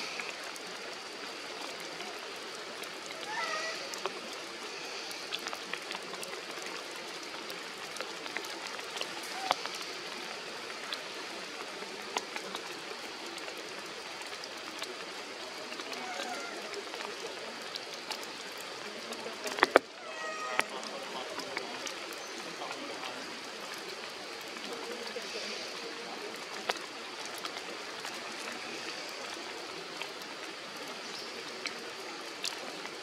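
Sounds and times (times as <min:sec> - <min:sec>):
rain falling on foliage: 0:00.0 - 0:33.0.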